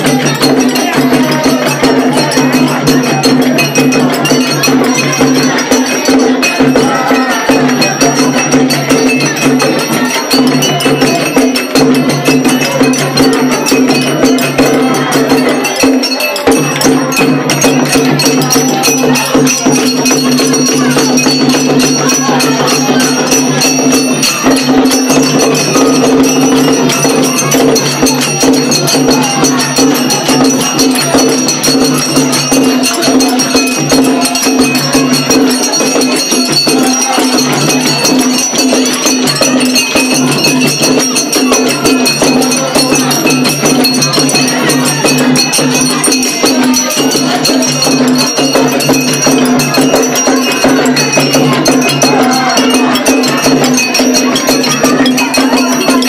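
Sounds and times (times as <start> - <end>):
hand drums playing fast rhythm: 0.0 - 56.0
people singing: 0.0 - 56.0.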